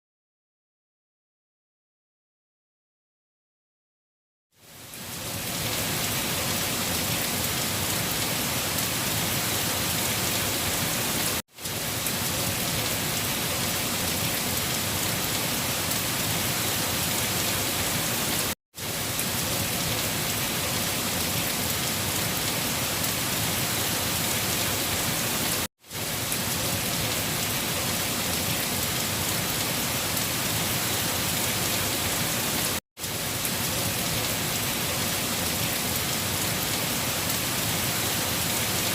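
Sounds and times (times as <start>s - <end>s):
rain falling: 4.6s - 38.9s.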